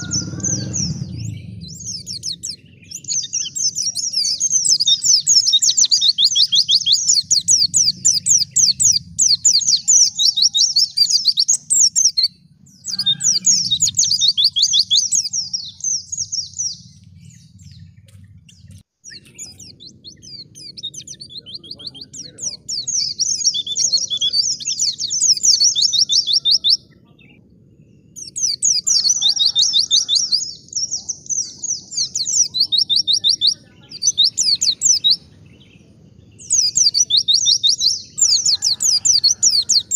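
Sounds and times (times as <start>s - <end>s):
bird singing high chattering trills: 0.0s - 39.9s.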